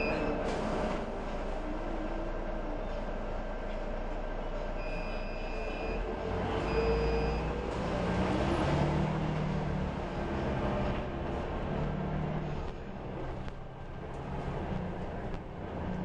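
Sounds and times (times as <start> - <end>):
bus engine idling and revving: 0.0 - 16.0.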